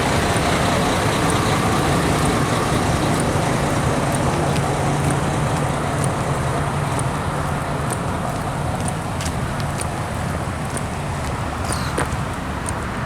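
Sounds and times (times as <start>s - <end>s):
traffic jam engine hum: 0.0s - 13.0s.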